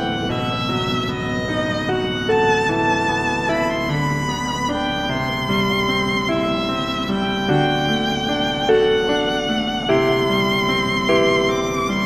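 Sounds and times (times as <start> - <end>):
slow sustained instrumental melody: 0.0 - 12.0.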